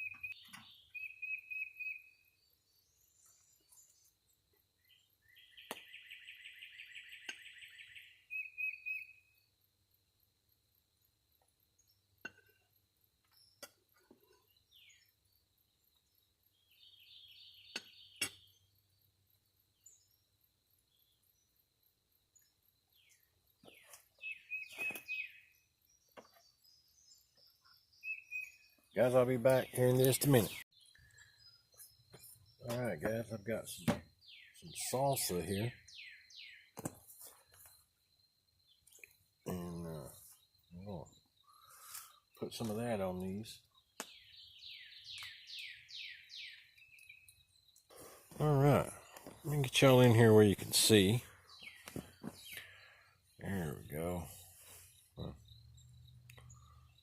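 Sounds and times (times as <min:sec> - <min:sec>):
songbirds singing: 0:00.0 - 0:09.9, 0:10.7 - 0:57.0.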